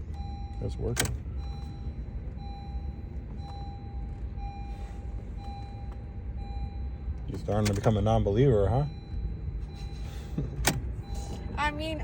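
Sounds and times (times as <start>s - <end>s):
car engine running: 0.0s - 12.0s
car warning chime beeping: 0.0s - 12.0s.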